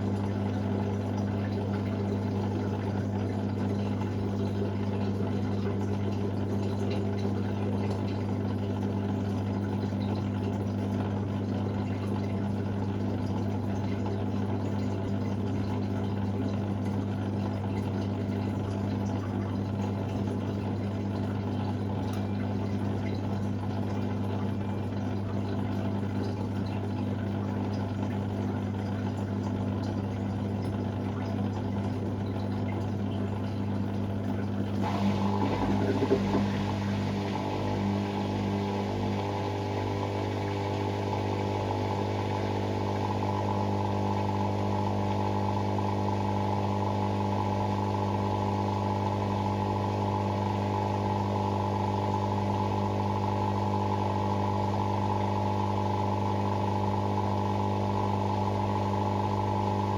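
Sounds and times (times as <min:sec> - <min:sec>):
washing machine humming: 0:00.0 - 0:59.9.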